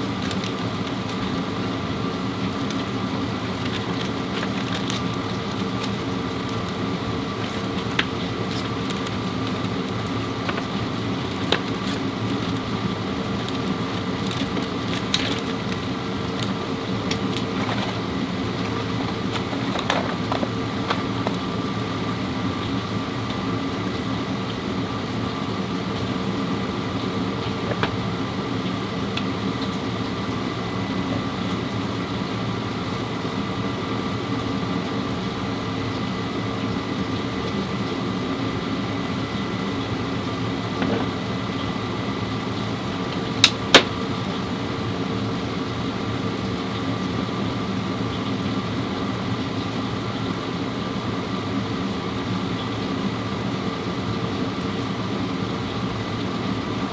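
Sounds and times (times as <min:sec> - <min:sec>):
steady mechanical hum: 0:00.0 - 0:56.9.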